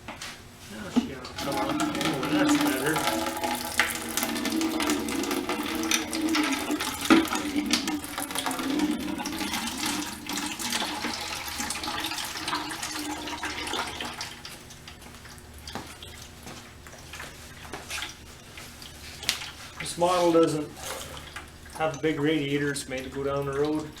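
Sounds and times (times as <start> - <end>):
coolant pouring from drain hole: 1.1 - 24.0.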